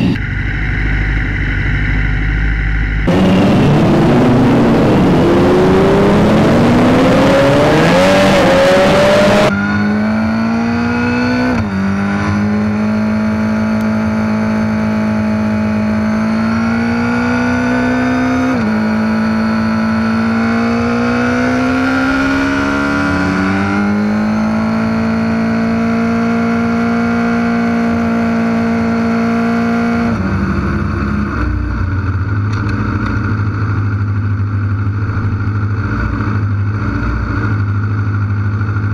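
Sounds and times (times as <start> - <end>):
motorcycle engines revving: 0.0 - 38.9
motorcycle engine shifting gears: 2.9 - 38.9.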